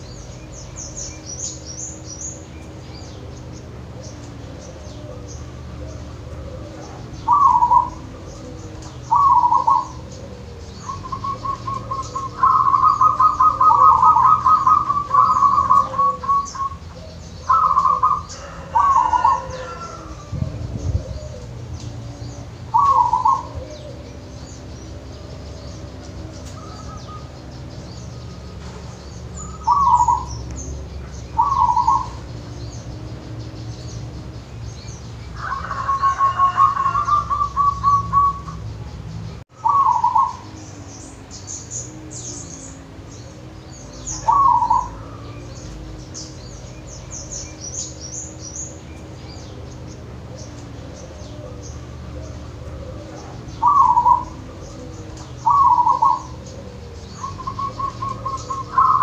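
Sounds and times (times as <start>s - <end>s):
dove cooing: 0.0s - 38.9s, 39.5s - 59.0s.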